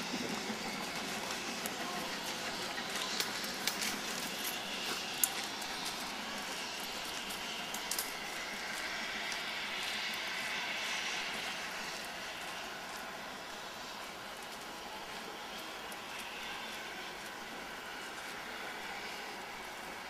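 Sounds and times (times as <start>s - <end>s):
steam train pulling away: 0.0s - 20.0s.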